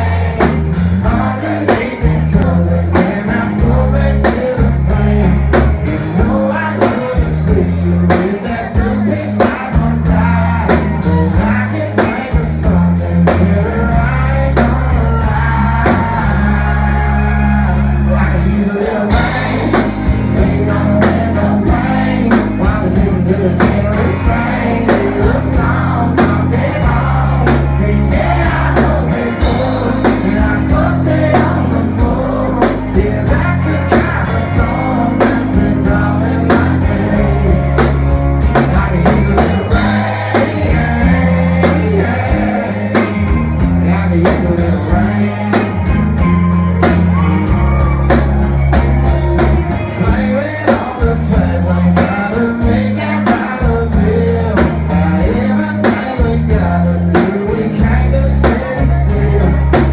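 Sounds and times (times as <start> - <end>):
steady drum beat: 0.0 - 17.4, 19.0 - 59.9
man singing: 0.0 - 46.0, 49.7 - 59.9
live country band: 0.0 - 59.9.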